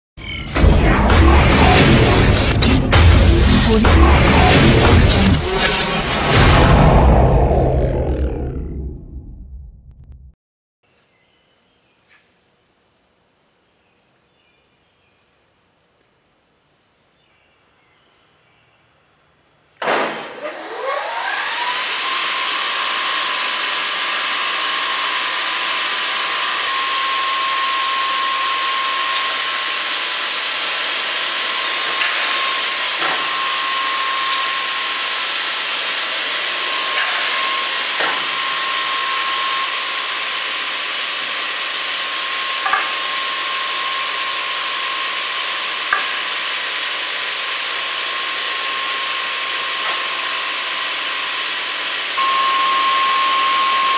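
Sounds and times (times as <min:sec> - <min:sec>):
saw motors whining: 0:00.2 - 0:09.5, 0:19.9 - 0:53.9.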